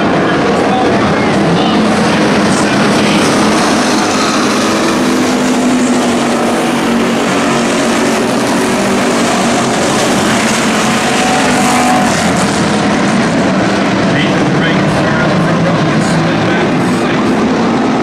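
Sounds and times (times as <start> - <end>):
race cars passing: 0.0 - 18.0.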